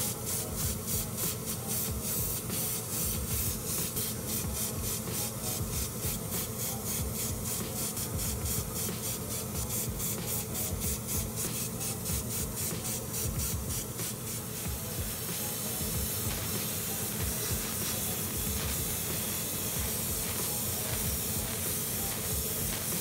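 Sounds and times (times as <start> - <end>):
airbrush spraying hiss: 0.0 - 23.0.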